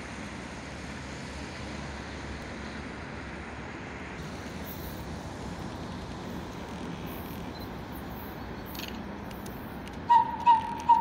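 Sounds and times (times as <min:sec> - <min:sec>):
distant electric locomotive rumble: 0:00.0 - 0:11.0.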